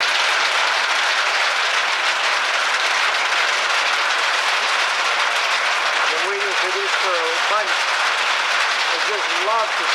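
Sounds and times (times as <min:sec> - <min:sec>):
steady rain falling: 0:00.0 - 0:09.9.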